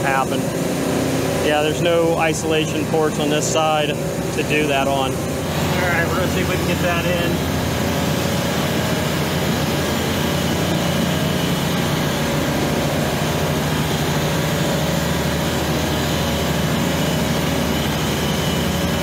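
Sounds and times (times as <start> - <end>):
compressor machinery drone: 0.0 - 19.0
torch flame hissing: 0.1 - 18.6.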